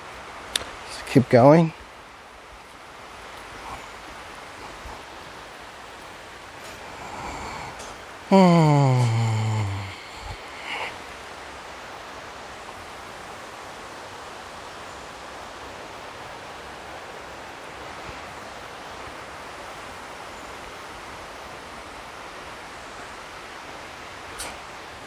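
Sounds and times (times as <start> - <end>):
distant waterfall rushing: 0.0 - 25.0.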